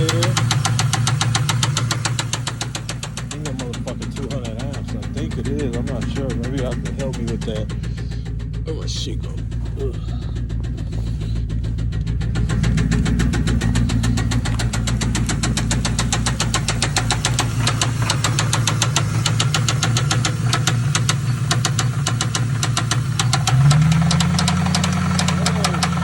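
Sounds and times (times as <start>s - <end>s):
car engine idling: 0.0s - 26.0s
fast regular ticking: 0.0s - 26.0s.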